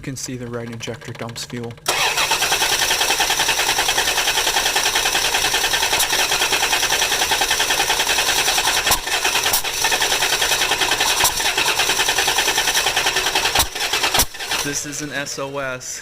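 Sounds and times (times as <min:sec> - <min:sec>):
engine cranking on starter: 0:00.1 - 0:15.6.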